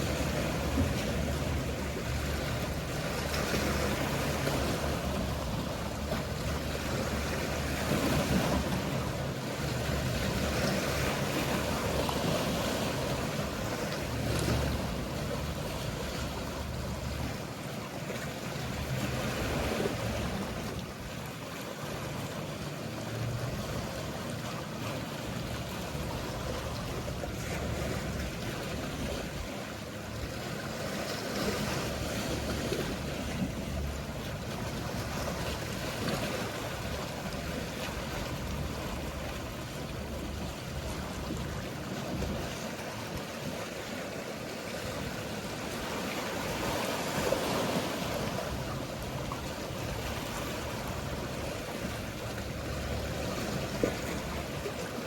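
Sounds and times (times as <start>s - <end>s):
motorboats humming: 0.0s - 55.0s
sea waves washing in: 0.0s - 55.0s.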